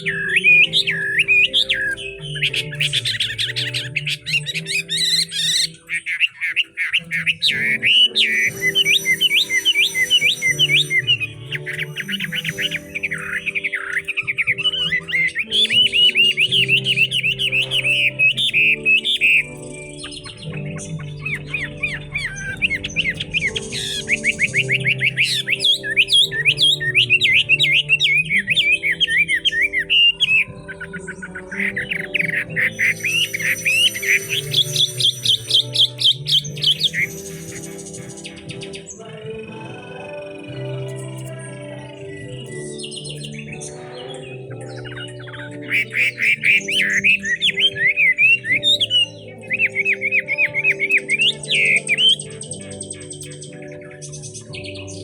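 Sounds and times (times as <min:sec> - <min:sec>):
bird singing trills and whistles: 0:00.0 - 0:55.0.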